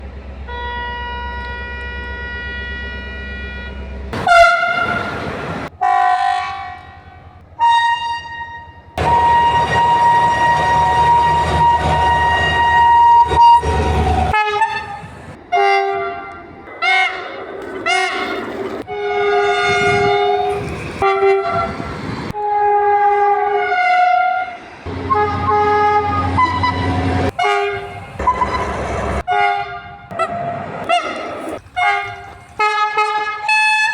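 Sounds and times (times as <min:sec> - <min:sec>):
low train rumble: 0:00.0 - 0:33.9
train horn blasts: 0:00.5 - 0:18.2, 0:18.8 - 0:33.9.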